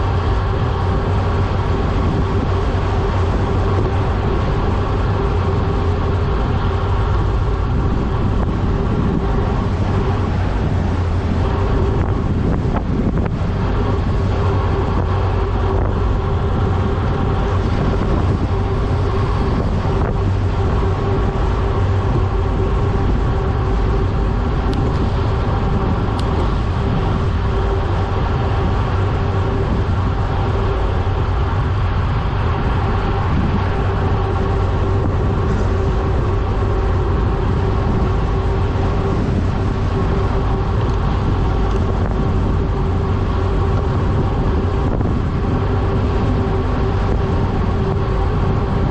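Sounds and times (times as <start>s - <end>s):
bicycle tyre hum: 0.0s - 48.9s
wind rushing over microphone: 0.0s - 48.9s.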